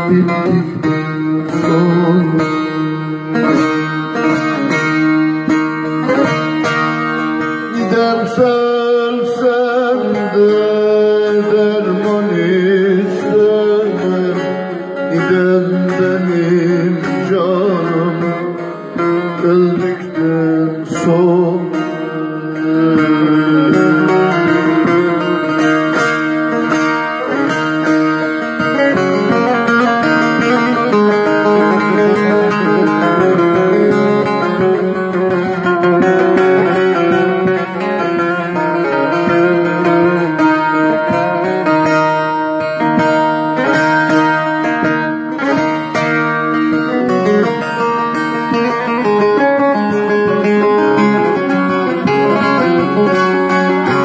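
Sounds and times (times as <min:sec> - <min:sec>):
plucked long-necked lute: 0:00.0 - 0:54.0.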